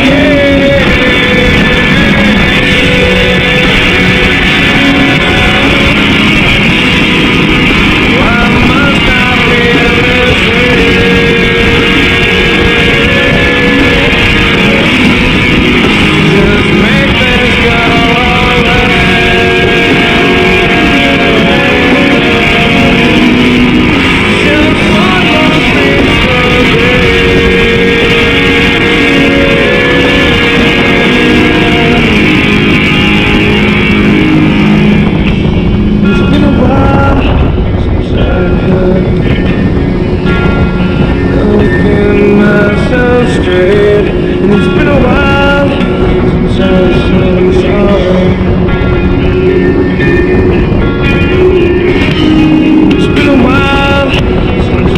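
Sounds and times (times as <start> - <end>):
rock music with guitar: 0.0 - 54.9.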